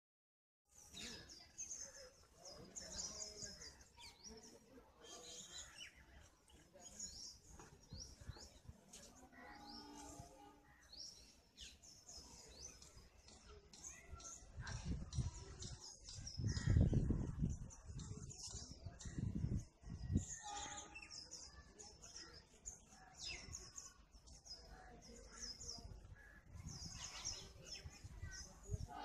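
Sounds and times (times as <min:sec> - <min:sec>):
small birds chirping: 0:00.7 - 0:29.0.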